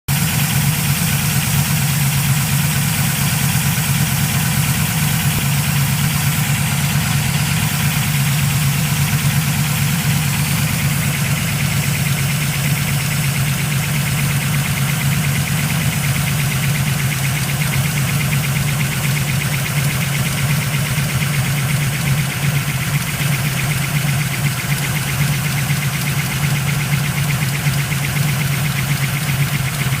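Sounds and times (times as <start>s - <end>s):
car engine idling: 0.1s - 30.0s
engine tapping: 0.1s - 30.0s.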